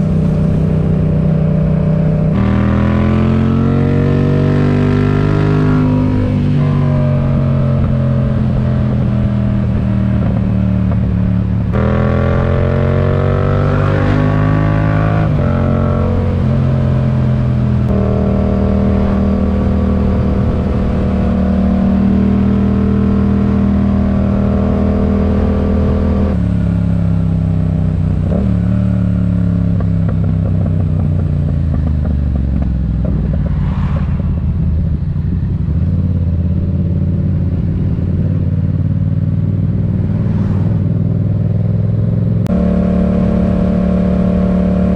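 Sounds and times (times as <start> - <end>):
motorcycle engine with gear changes: 0.0 - 44.9.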